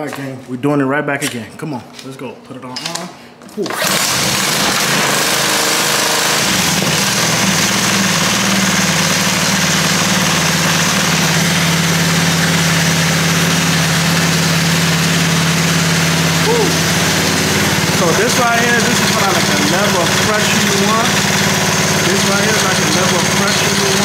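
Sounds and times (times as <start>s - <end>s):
pressure washer engine running: 3.7s - 24.0s.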